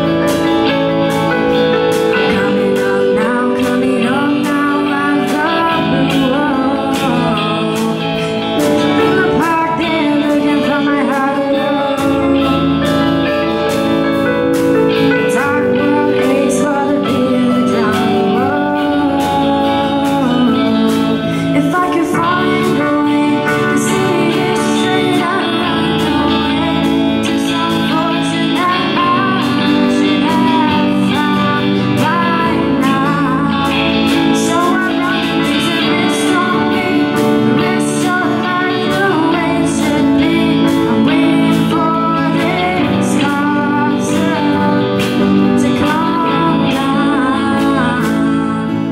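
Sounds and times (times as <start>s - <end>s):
live rock band playing: 0.0s - 48.9s
person singing: 0.0s - 48.9s.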